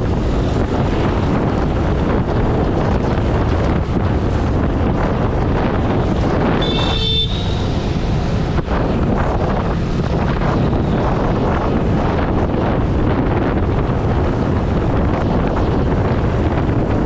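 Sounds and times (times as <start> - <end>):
motorcycle engine and road noise: 0.0 - 17.0
wind buffeting microphone: 0.0 - 17.0.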